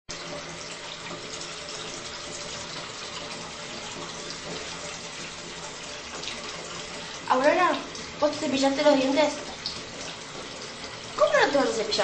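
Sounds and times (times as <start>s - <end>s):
tap running into sink: 0.1s - 12.0s.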